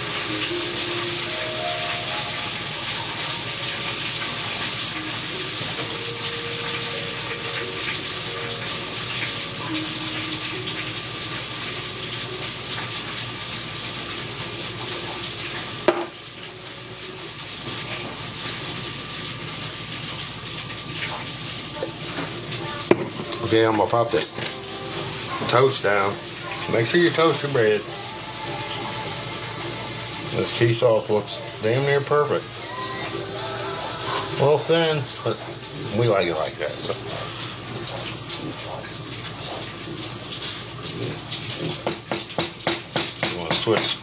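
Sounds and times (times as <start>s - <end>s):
hot oil sizzling: 0.0s - 44.0s.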